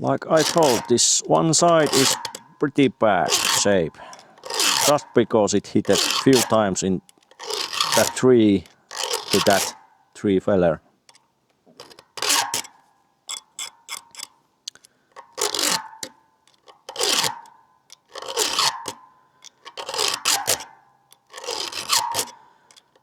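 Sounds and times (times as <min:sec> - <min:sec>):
file rasping on chainsaw chain: 0:00.0 - 0:09.9, 0:11.8 - 0:23.0.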